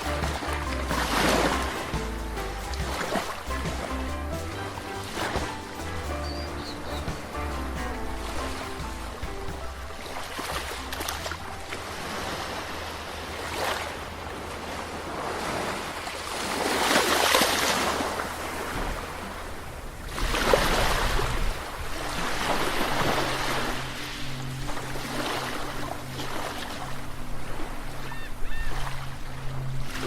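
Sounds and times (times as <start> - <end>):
sea waves washing onto shore: 0.0 - 30.0.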